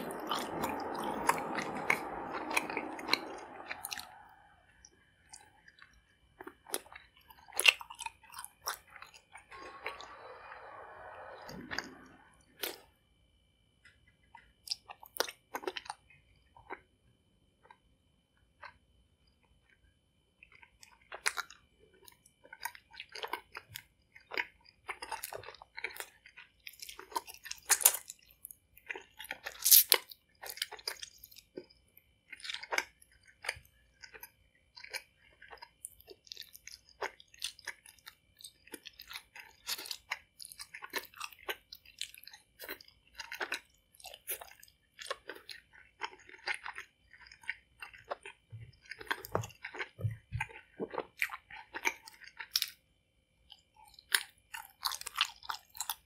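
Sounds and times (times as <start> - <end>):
chewing sticky food: 0.0 - 12.9, 13.8 - 56.0.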